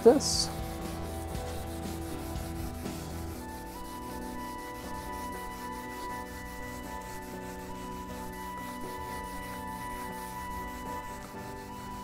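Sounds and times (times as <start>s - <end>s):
background music with held notes: 0.0s - 12.0s
scouring pad scrubbing steel table: 0.0s - 12.0s.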